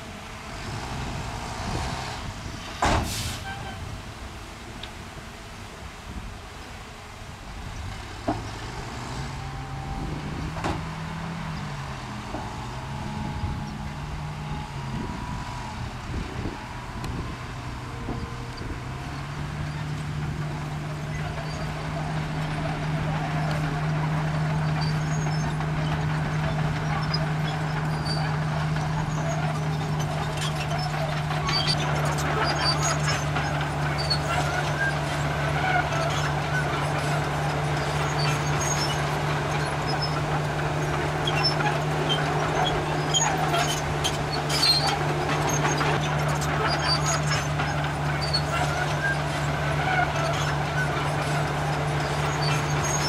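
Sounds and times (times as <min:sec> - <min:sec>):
diesel truck engine revving: 0:00.0 - 0:04.2, 0:07.3 - 0:53.0
dirt sliding out: 0:08.2 - 0:53.0.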